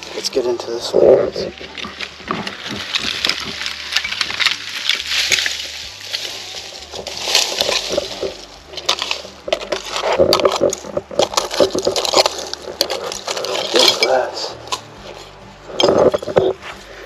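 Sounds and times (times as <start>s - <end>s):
hand scraping through soil: 0.0s - 17.0s.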